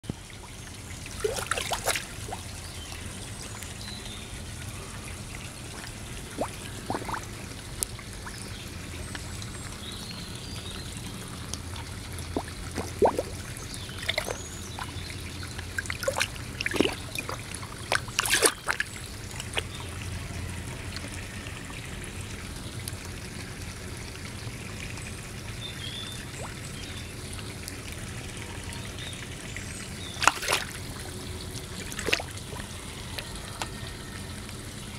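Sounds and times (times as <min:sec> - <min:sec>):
pond water trickling: 0:00.0 - 0:34.9
fish splashing and slurping: 0:00.1 - 0:34.9.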